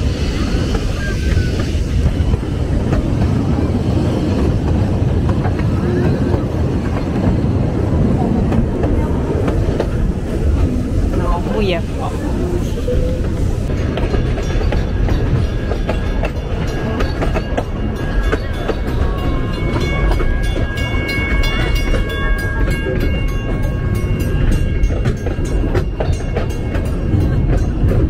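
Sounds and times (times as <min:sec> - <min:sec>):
steam train rumbling: 0:00.0 - 0:28.0.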